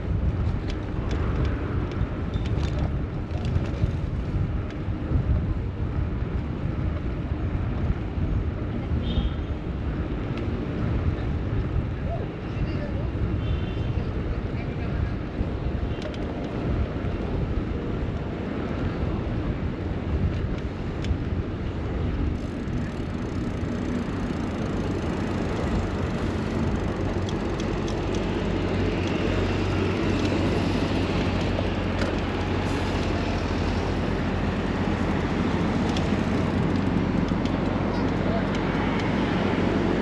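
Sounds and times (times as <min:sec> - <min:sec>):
rumble of road traffic: 0:00.0 - 0:40.0.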